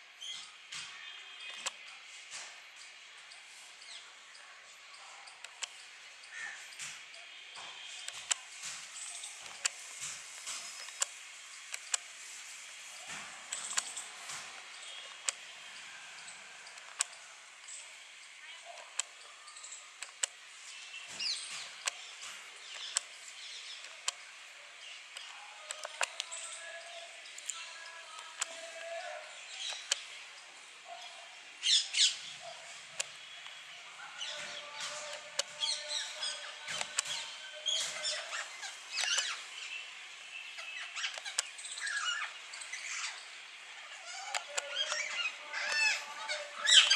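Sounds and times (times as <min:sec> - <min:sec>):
background birds and insects: 0:00.0 - 0:46.9.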